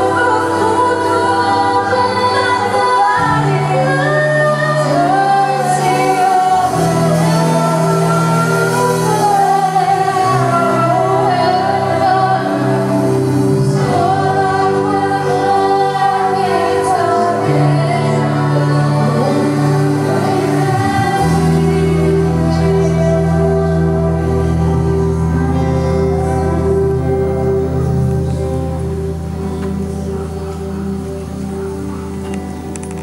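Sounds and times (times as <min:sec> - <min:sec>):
woman singing: 0:00.0 - 0:28.8
guitars: 0:00.0 - 0:33.0
bass line: 0:03.1 - 0:33.0.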